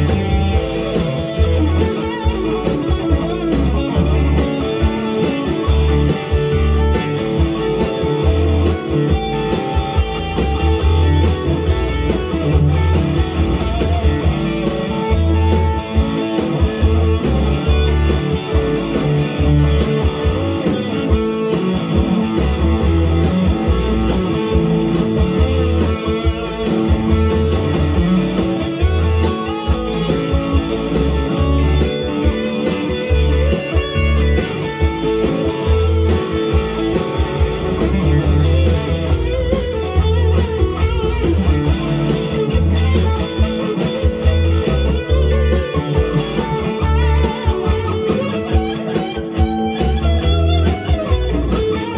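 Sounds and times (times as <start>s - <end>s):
electric guitar through amplifier: 0.0s - 51.9s.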